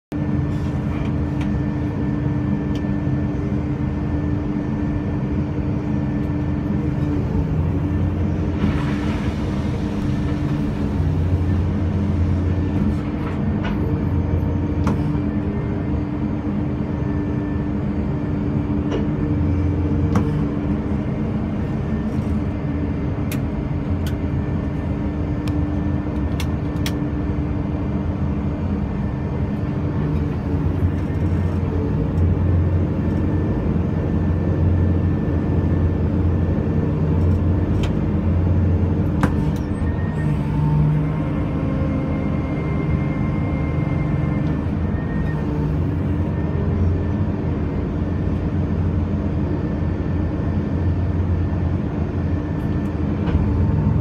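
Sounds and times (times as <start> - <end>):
diesel engine running: 0.1 - 54.0.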